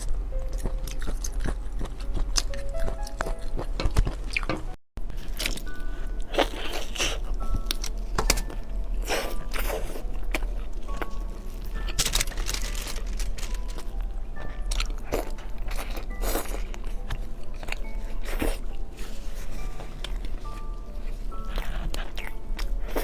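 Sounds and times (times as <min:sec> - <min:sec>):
background music: 0:00.0 - 0:23.0
chewing crunches and mouth smacks: 0:00.4 - 0:18.8, 0:21.4 - 0:23.0.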